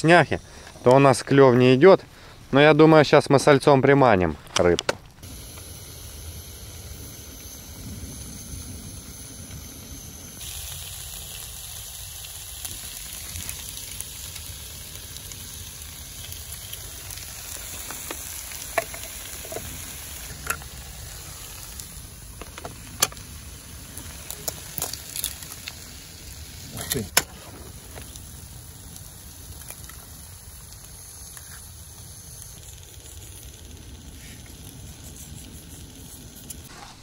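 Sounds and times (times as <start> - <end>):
potatoes sizzling in frying pan: 5.2 - 36.7.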